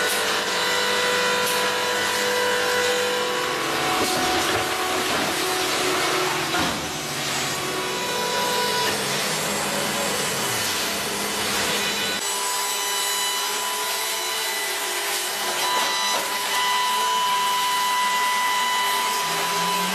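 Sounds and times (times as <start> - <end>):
hydraulic baler drone and whine: 0.0 - 19.9.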